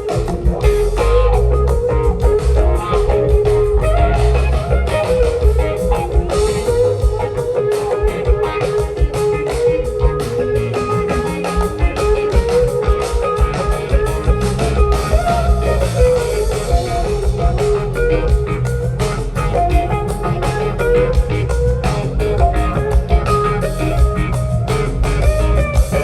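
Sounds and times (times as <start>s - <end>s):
bass line: 0.0s - 26.0s
drum kit beat: 0.0s - 26.0s
electric guitar melodic lines: 0.0s - 26.0s.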